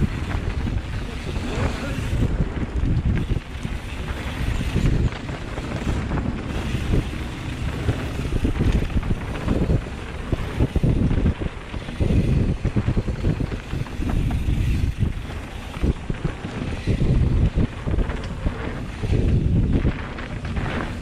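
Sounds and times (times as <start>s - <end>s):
bike knocks and rattles: 0.0s - 21.0s
tyres rumbling over dirt: 0.0s - 21.0s
wind buffeting microphone: 0.0s - 21.0s.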